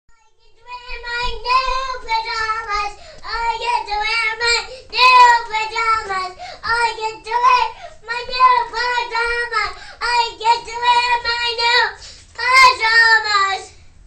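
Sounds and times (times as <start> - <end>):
girl singing in a high voice: 0.1 - 13.7.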